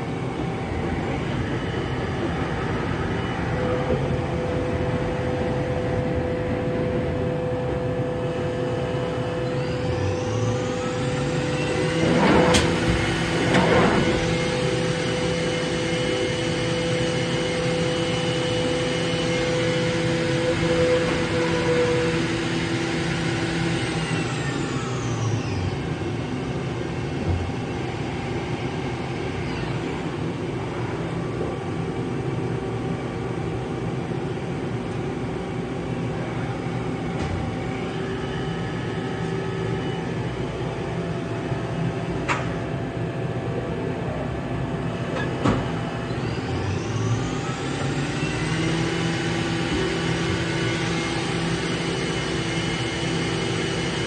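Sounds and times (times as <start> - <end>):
spindle whine: 0.0 - 54.0.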